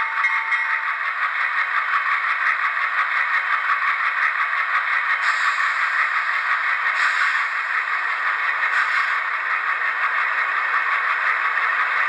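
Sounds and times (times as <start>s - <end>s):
model locomotive diesel engine sound: 0.0s - 12.0s.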